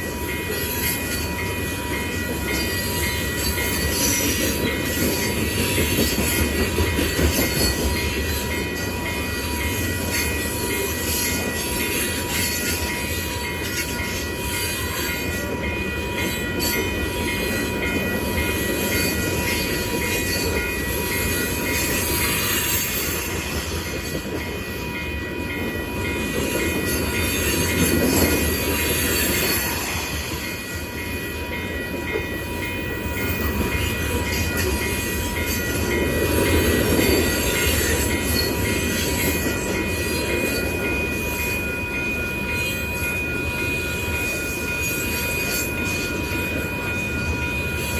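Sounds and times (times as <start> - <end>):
steel wheels rumbling on rail: 0.0 - 47.9.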